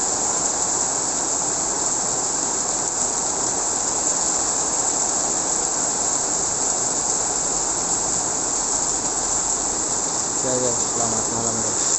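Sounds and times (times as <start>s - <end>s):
heavy rain in strong wind: 0.0s - 11.9s.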